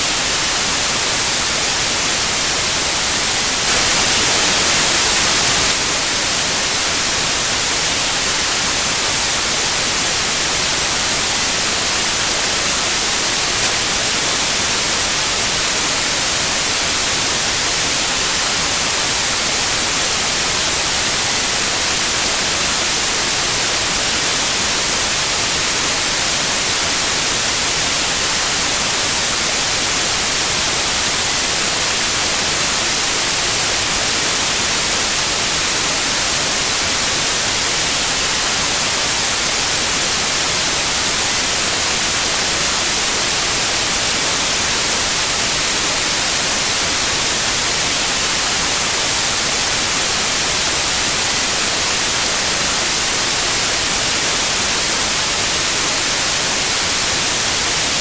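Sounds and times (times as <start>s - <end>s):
high pure tone: 0.0s - 55.6s
white noise hiss: 0.0s - 58.0s.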